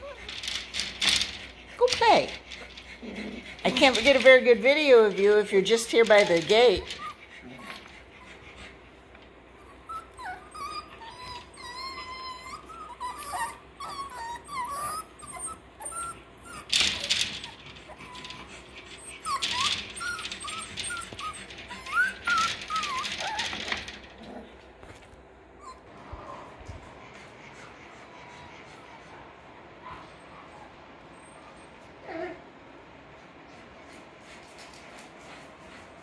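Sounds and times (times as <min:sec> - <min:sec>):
puppies whining and squealing: 0:00.0 - 0:33.1
puppies scuffling: 0:00.0 - 0:36.0.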